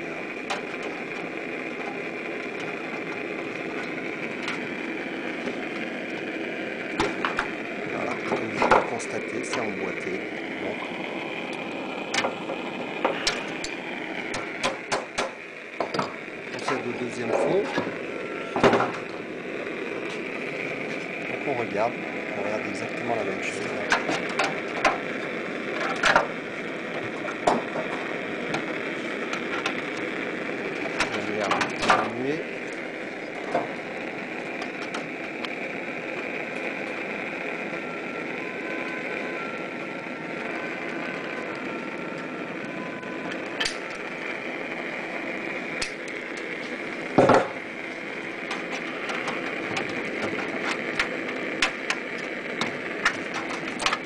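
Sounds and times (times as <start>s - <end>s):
steady background hum: 0.0s - 54.0s
steady background noise: 0.0s - 54.0s.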